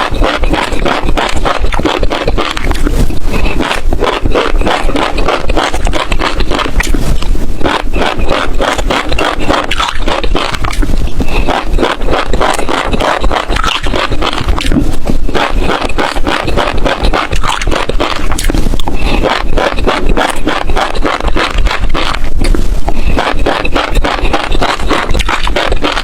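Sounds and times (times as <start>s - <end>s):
crunching seeds while chewing: 0.0s - 26.0s.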